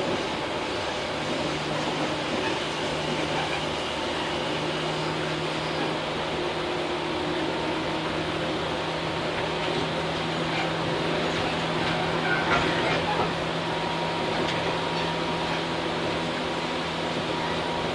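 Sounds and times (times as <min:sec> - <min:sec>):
electric train rolling: 0:00.0 - 0:17.9.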